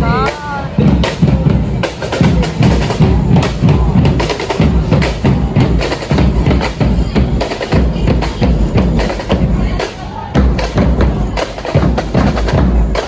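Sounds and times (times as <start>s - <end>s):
heavy bass drum: 0.0s - 13.0s
music with rapid drumming: 0.0s - 13.0s.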